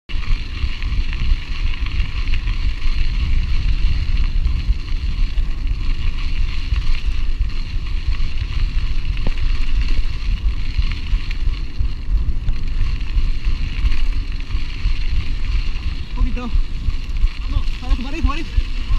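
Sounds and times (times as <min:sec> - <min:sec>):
bike tyres crunching on gravel: 0:00.1 - 0:18.9
wind buffeting microphone: 0:00.1 - 0:18.9.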